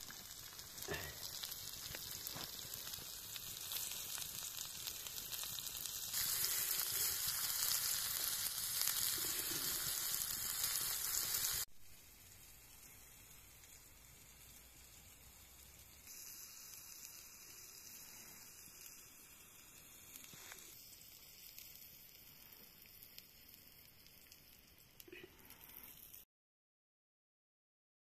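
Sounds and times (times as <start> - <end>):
food sizzling in a pan: 0.0 - 26.3.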